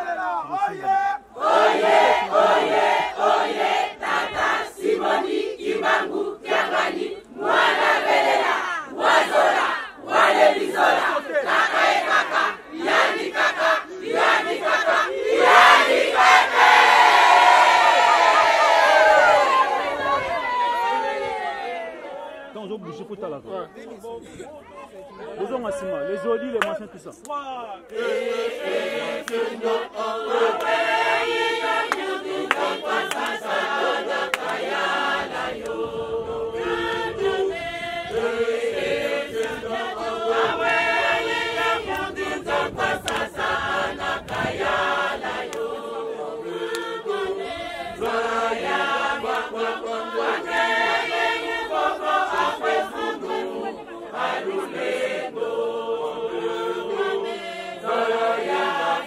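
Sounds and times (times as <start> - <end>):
choir singing a hymn: 1.3 - 21.9, 27.9 - 59.0.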